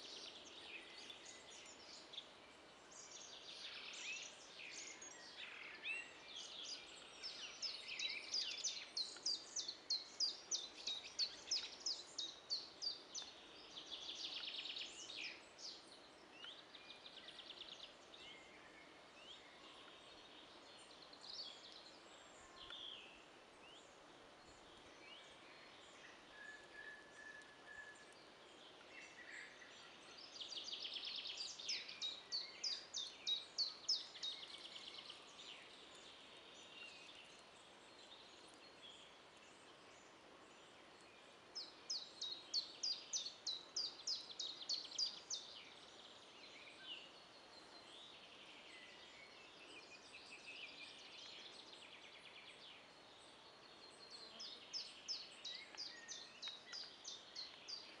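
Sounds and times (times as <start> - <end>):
faint steady hiss: 0.0 - 58.0
songbird singing: 0.0 - 58.0.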